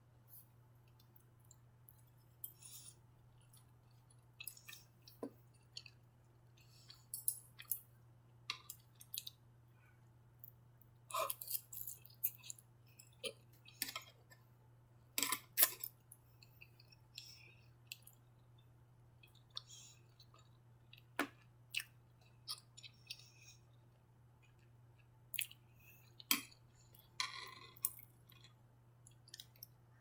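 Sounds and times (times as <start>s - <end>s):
close chewing and mouth sounds: 0.8s - 7.9s, 8.5s - 9.8s, 10.4s - 14.4s, 15.5s - 29.9s.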